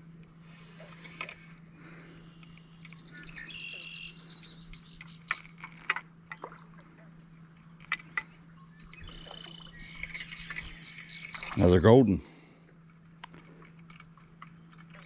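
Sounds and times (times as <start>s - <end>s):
steady low hum: 0.0s - 15.0s
songbirds singing and chirping: 0.5s - 15.0s.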